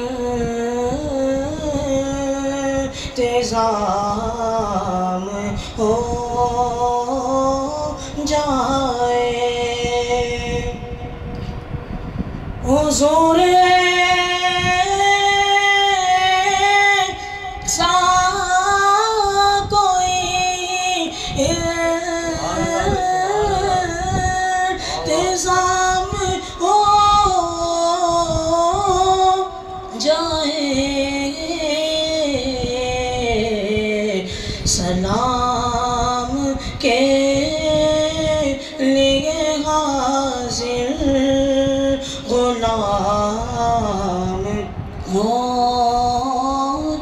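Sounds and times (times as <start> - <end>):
boy singing devotional poem: 0.0 - 47.0.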